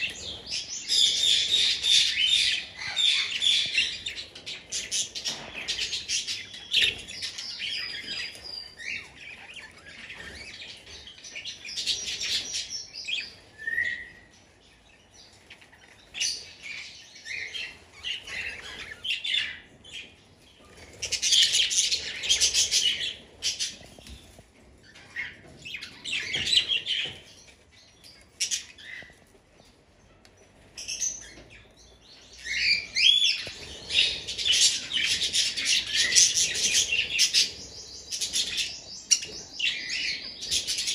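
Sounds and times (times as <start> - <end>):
budgerigars chattering and chirping: 0.0 - 29.2, 30.8 - 40.9.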